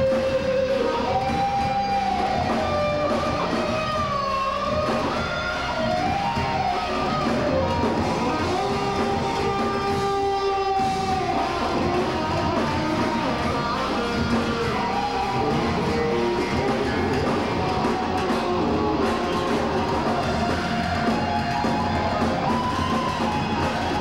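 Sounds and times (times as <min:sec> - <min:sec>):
electric guitar lead: 0:00.0 - 0:24.0
heavy metal band playing live: 0:00.0 - 0:24.0.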